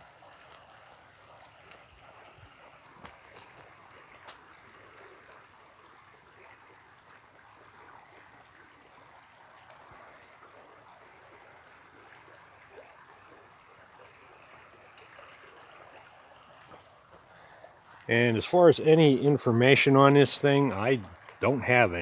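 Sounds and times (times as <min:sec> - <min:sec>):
creek water trickling over sand: 0:00.0 - 0:22.0.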